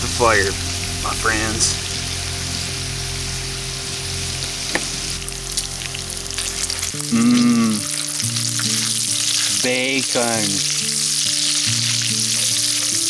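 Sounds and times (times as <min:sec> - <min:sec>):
background music: 0:00.0 - 0:13.0
meat sizzling in a pan: 0:00.0 - 0:13.0.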